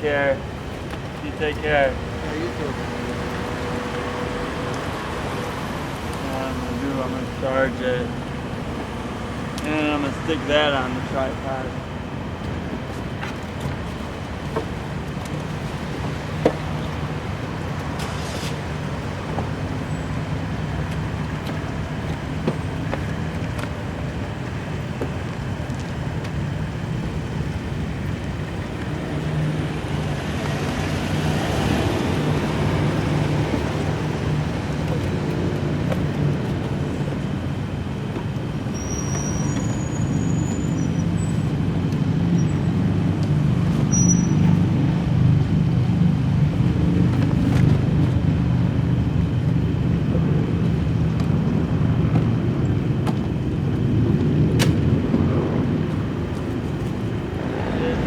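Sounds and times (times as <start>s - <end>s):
traffic rumble: 0.0s - 58.0s.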